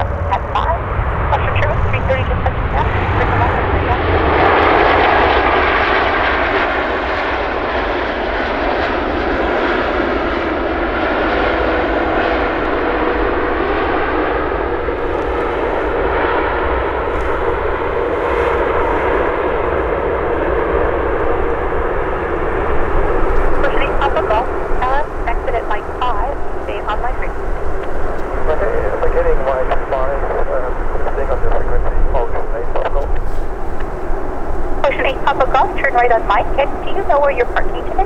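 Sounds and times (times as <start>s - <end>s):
jet engines rushing: 0.0s - 38.0s.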